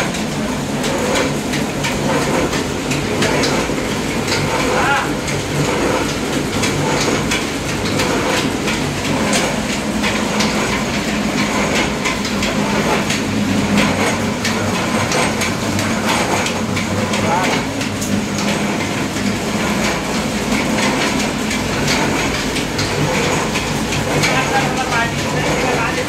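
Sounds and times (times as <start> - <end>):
oil press humming and clattering: 0.0 - 26.0.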